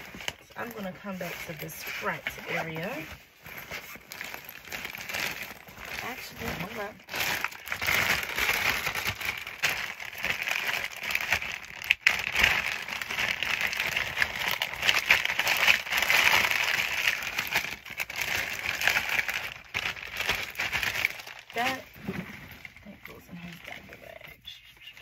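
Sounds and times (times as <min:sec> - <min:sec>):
plastic bag crinkling: 0:00.0 - 0:24.5.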